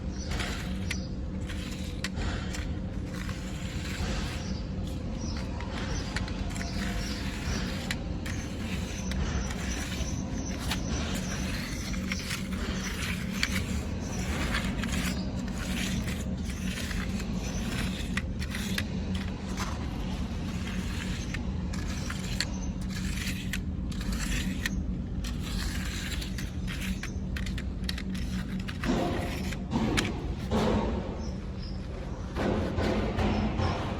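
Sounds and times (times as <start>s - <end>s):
small electric motors humming: 0.0s - 30.9s
dirt scraping and crackling: 0.0s - 32.6s.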